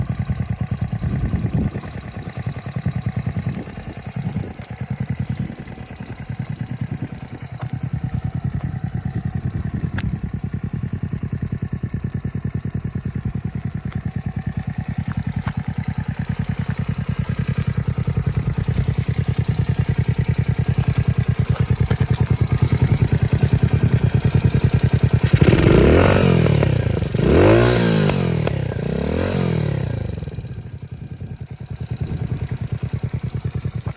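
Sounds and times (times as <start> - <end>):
small engine idling and revving: 0.0 - 33.9.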